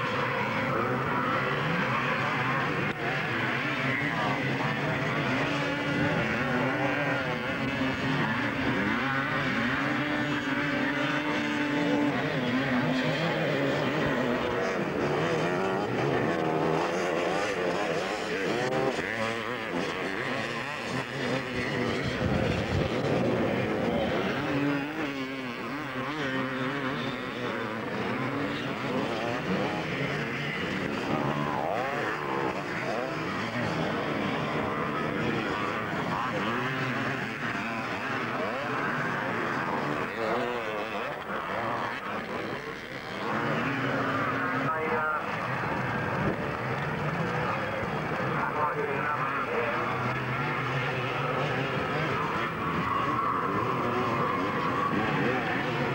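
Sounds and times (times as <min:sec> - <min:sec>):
motocross bikes revving: 0:00.0 - 0:55.9.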